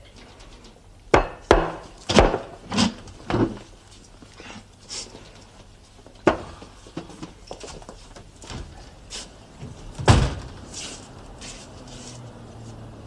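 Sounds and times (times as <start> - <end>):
people shuffling and knocking: 1.9 - 13.0.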